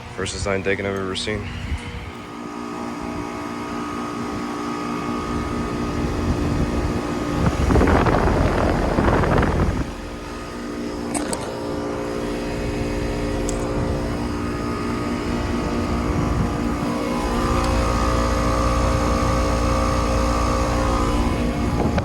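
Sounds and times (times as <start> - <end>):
air conditioner units humming: 0.0 - 22.0.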